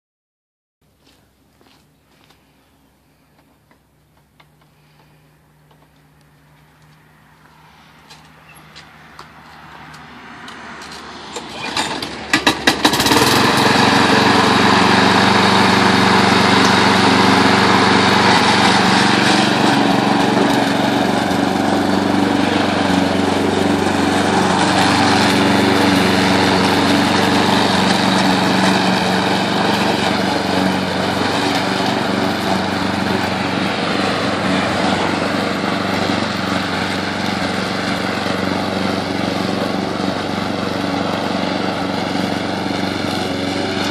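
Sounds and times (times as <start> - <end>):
lawn mower engine: 4.2 - 43.9.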